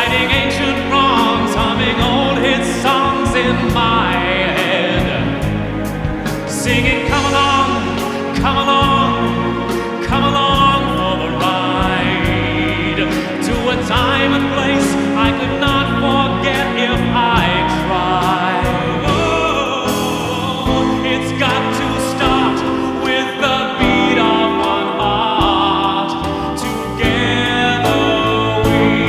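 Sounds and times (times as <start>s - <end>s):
instrumental accompaniment: 0.0s - 29.0s
man singing with vibrato: 0.0s - 29.0s.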